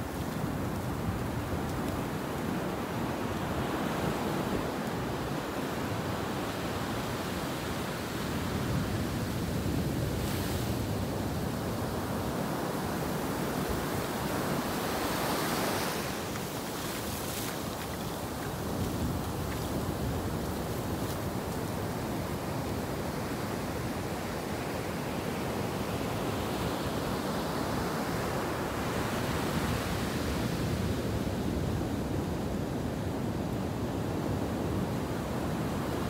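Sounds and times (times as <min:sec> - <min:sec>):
ocean surf on a beach: 0:00.0 - 0:36.0.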